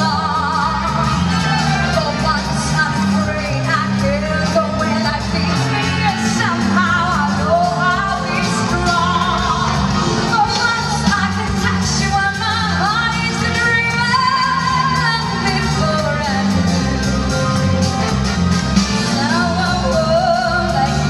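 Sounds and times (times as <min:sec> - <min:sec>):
woman singing: 0:00.0 - 0:17.4, 0:19.0 - 0:21.0
band accompaniment with bass line: 0:00.0 - 0:21.0.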